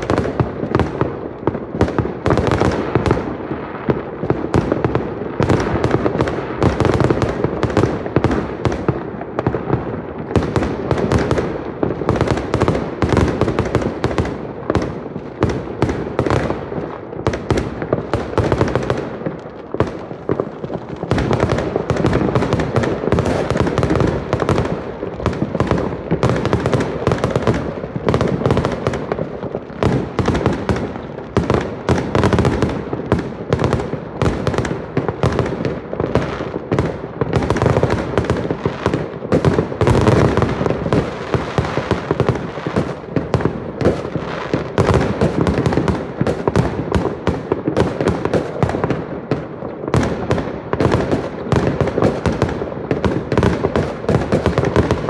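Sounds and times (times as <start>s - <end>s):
fireworks banging: 0.0s - 55.0s.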